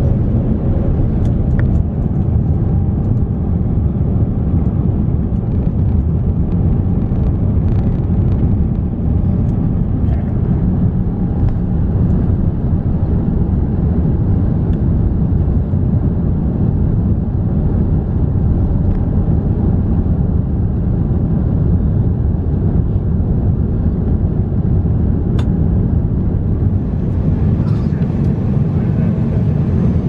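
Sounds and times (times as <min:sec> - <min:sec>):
jet engine rumble in cabin: 0:00.0 - 0:30.0.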